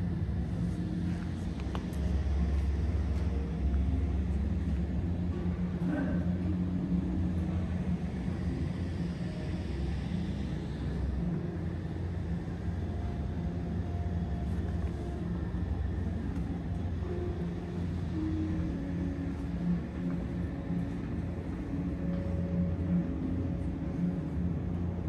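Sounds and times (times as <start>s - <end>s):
faint hum: 0.0s - 25.0s
low ventilation rumble: 0.0s - 25.0s.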